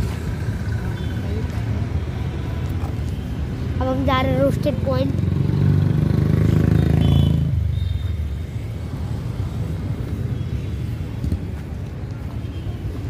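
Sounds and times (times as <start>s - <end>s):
road rumble: 0.0s - 13.0s
vehicle engine rumbling: 0.0s - 13.0s.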